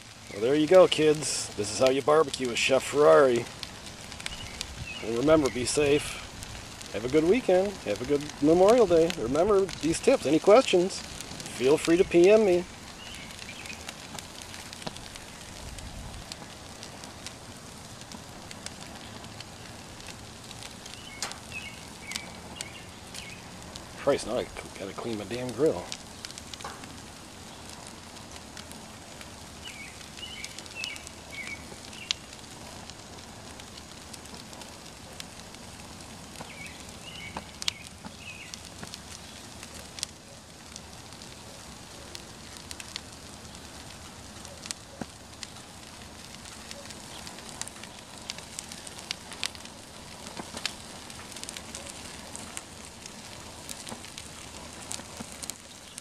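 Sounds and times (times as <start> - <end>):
paper burning with crackles: 0.0 - 56.0.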